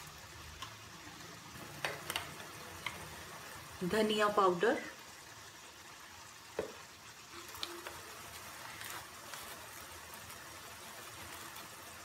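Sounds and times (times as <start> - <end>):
paste sizzling in a pan: 0.0 - 12.0.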